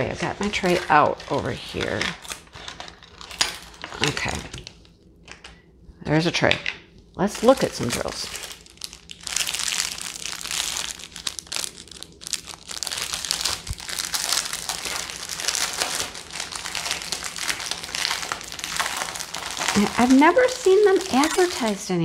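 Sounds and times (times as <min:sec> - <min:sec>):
plastic bags crinkling: 0:00.0 - 0:05.6, 0:07.2 - 0:21.9.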